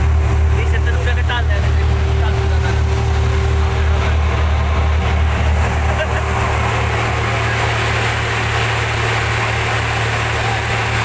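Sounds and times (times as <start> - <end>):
boat engine humming: 0.0 - 11.0
wash of noise: 0.0 - 11.0.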